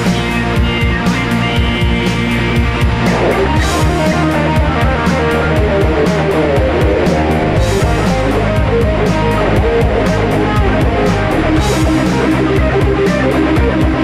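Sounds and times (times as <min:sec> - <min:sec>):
deep bass part: 0:00.0 - 0:14.0
guitar-driven music: 0:00.0 - 0:14.0
steady drum beat: 0:00.0 - 0:14.0.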